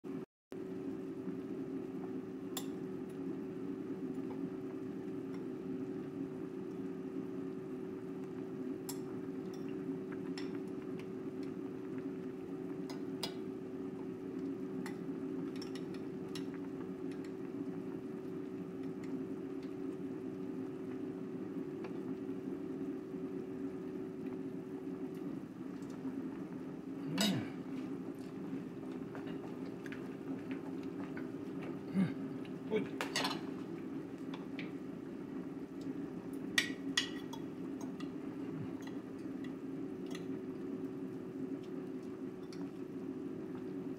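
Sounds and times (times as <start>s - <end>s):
steady low hum: 0.1s - 43.9s.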